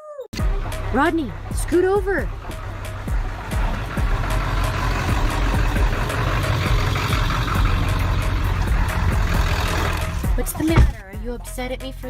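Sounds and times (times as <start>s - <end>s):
car engine running: 0.4s - 11.3s.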